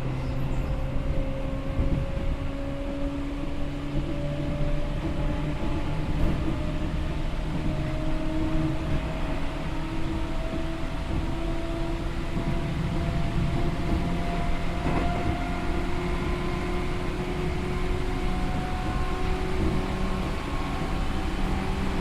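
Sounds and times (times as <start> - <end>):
train traction motors humming: 0.0 - 22.0
wheel and rail rumble: 0.0 - 22.0.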